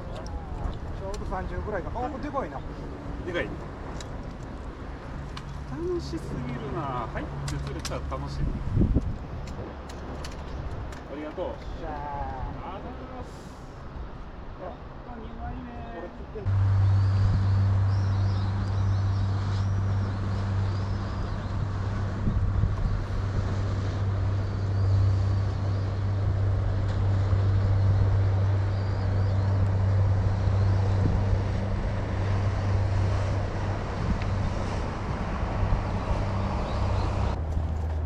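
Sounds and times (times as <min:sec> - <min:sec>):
low engine-like drone: 0:00.0 - 0:11.2, 0:11.8 - 0:38.0
rushing wash: 0:00.0 - 0:38.0.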